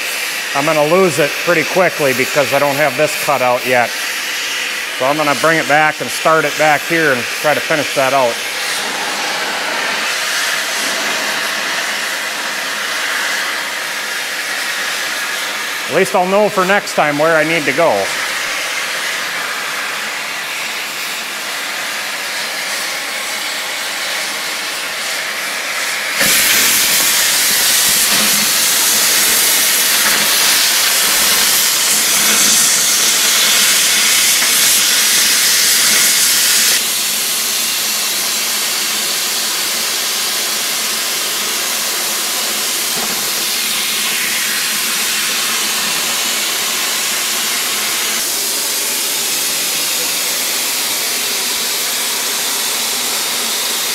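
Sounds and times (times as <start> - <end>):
cutting torch hissing: 0.0 - 53.9.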